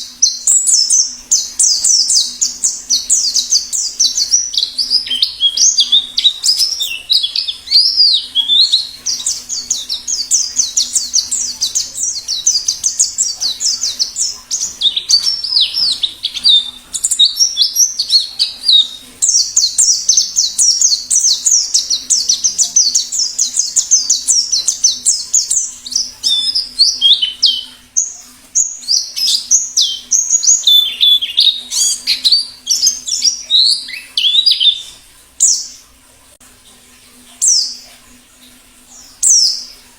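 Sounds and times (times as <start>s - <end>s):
bird chattering song: 0.0s - 35.8s.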